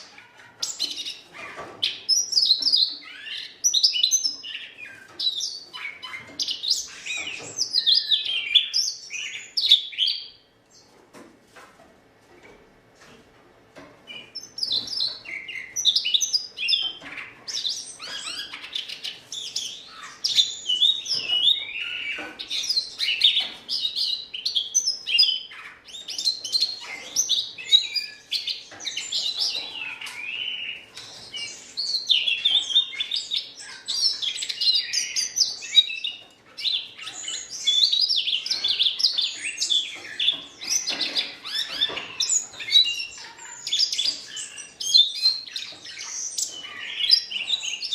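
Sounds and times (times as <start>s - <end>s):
bird warbling song: 0.0s - 10.9s, 14.1s - 47.9s.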